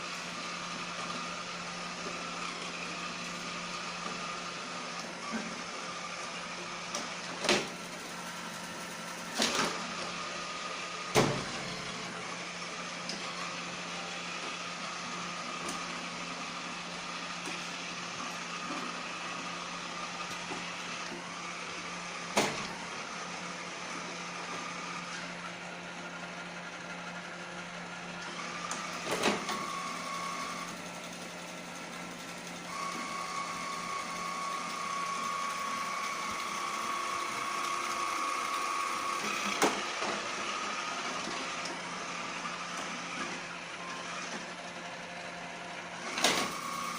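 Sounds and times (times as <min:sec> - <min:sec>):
robot vacuum motor hum: 0:00.0 - 0:46.9.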